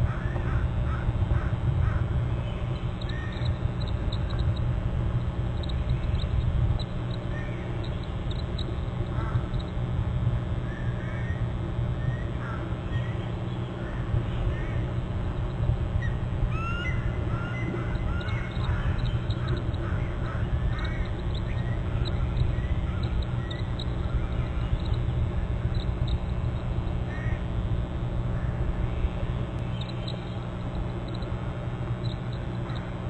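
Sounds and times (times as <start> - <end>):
birds chirping: 0.0 - 33.0
steady low rumble: 0.0 - 33.0.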